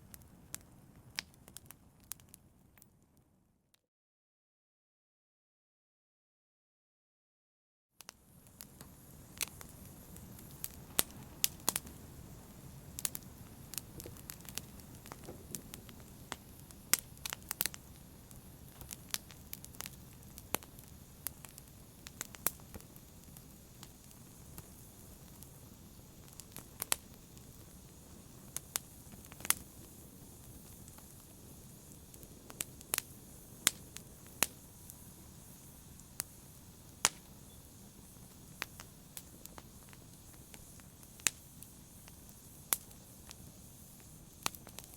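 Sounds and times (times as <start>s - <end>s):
fireplace fire crackling: 0.0s - 3.0s, 8.0s - 44.9s.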